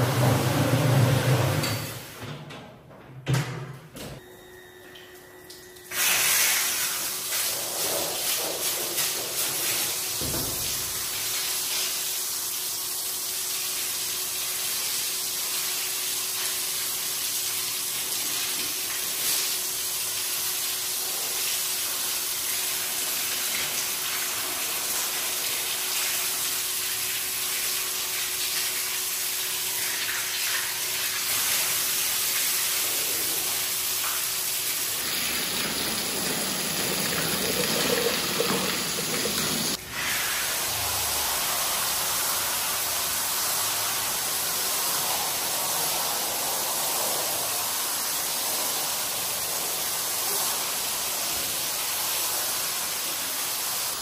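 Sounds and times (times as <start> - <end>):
water spraying onto a rug: 5.9 - 54.0.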